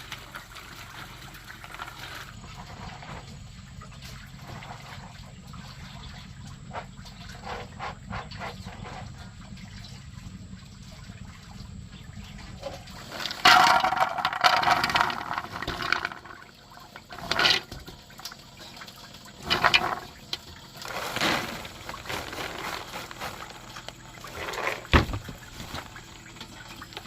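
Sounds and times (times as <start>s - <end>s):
water gushing and splashing: 0.0s - 27.0s.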